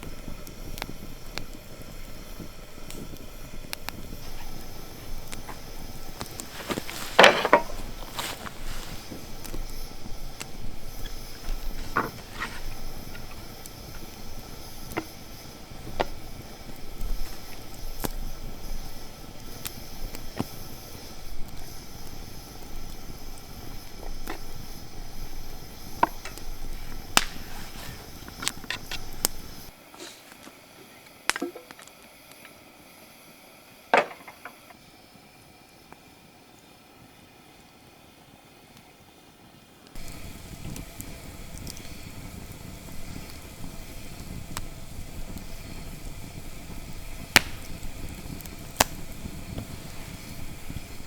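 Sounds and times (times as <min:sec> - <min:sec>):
outdoor background noise: 0:00.0 - 0:51.0.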